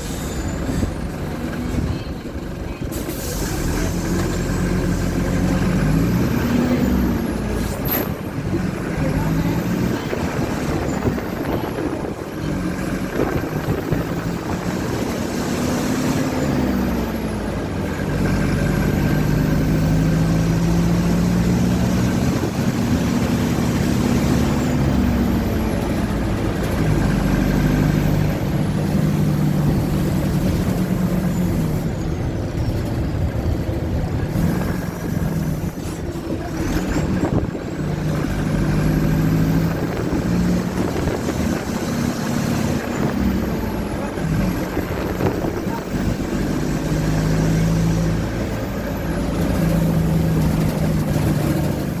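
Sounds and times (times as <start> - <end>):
bus diesel engine running: 0.0 - 52.0.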